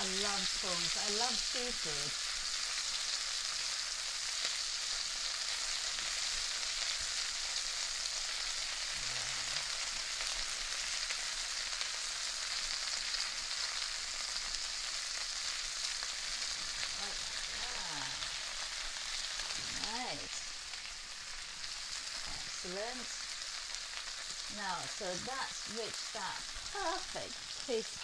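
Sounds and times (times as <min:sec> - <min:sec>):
prawns sizzling in hot oil: 0:00.0 - 0:28.0.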